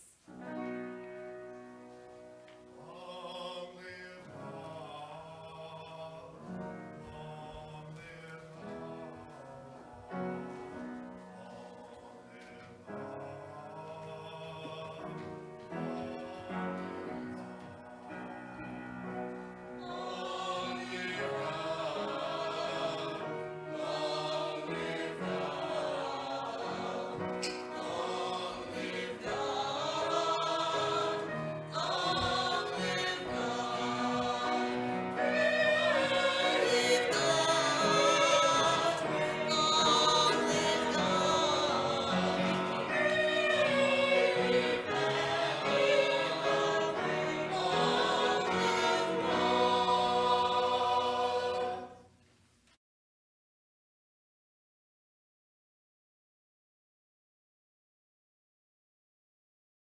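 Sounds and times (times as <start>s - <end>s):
group singing a hymn: 2.7s - 52.1s.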